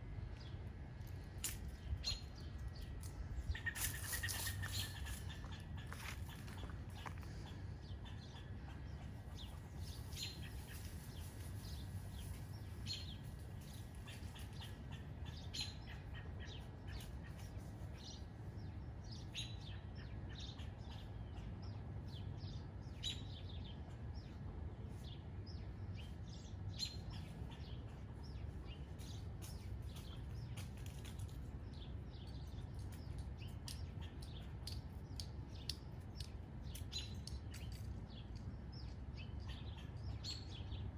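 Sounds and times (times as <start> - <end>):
low background rumble: 0.0 - 40.9
small birds chirping: 0.2 - 40.9.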